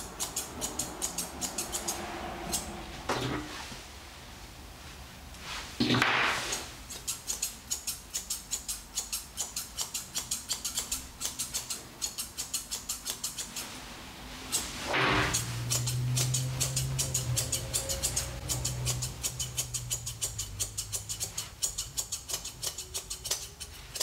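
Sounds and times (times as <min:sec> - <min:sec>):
shears snipping hair: 0:00.0 - 0:02.8, 0:06.4 - 0:13.8, 0:14.4 - 0:24.0.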